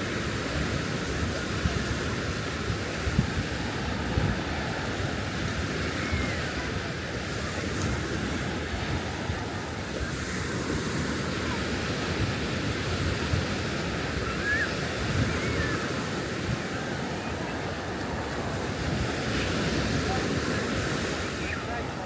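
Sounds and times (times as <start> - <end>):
surf washing onto beach: 0.0 - 22.0
wind on microphone: 0.0 - 22.0.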